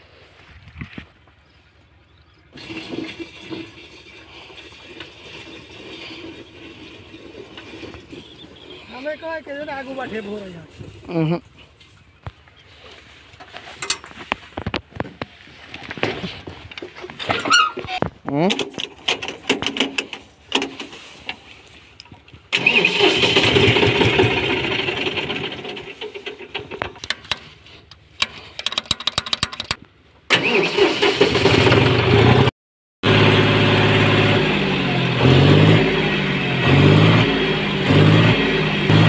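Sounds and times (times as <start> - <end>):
tractor diesel engine running: 2.3 - 39.0.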